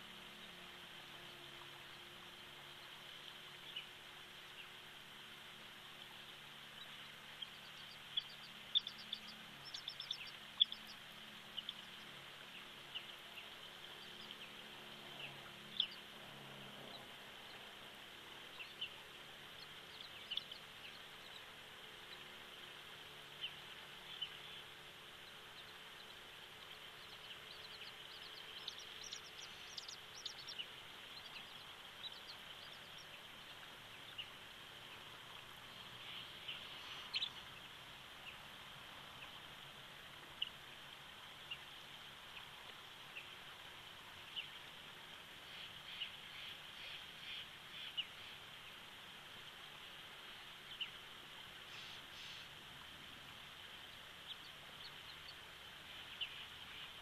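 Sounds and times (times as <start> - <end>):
steady high-pitched hiss: 0.0 - 57.0.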